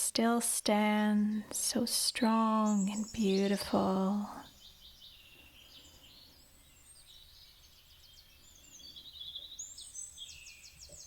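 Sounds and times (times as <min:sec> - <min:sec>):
small birds chirping: 0:00.0 - 0:11.0
soft low background noise: 0:00.0 - 0:11.0.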